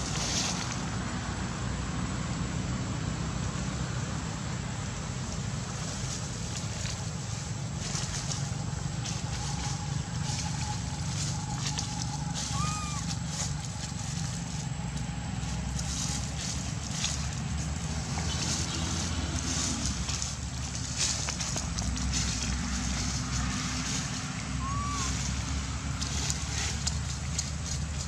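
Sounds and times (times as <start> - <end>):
dry leaves rustling and crackling: 0.0 - 1.0, 5.2 - 28.0
steady low rumble: 3.5 - 28.0.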